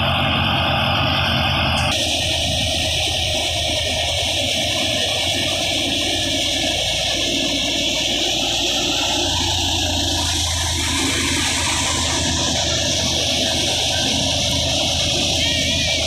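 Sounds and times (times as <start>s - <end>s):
threshing machine whirring: 0.0s - 16.0s
tractor engine: 0.0s - 16.0s.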